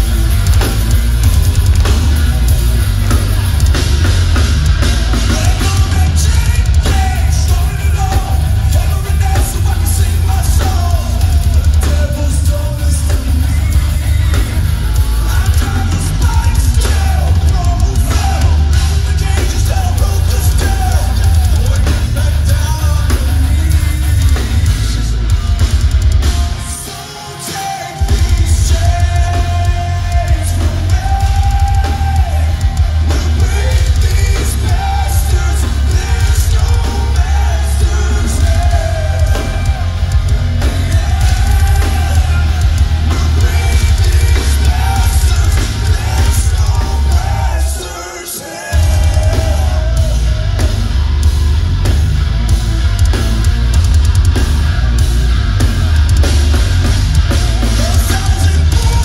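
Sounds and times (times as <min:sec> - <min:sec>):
person singing lead vocals: 0:00.0 - 0:51.9, 0:57.2 - 0:59.0
heavy metal band playing live: 0:00.0 - 0:59.0.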